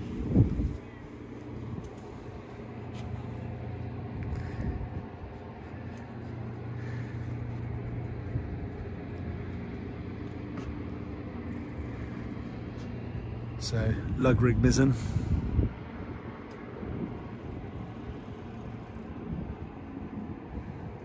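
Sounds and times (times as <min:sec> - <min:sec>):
low motor rumble: 0:00.0 - 0:21.0.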